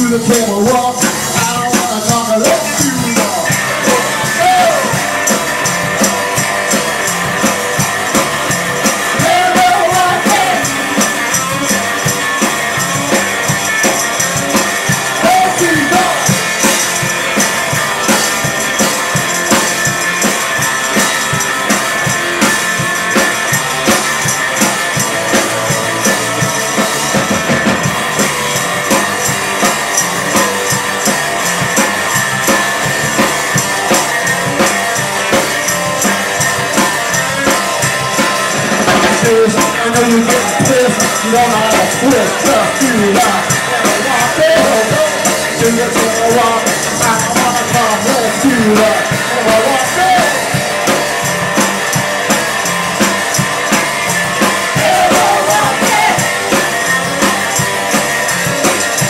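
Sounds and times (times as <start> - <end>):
bass guitar: 0.0 - 59.0
drum kit beat: 0.0 - 59.0
electric guitar: 0.0 - 59.0
tambourine shaking: 0.0 - 59.0.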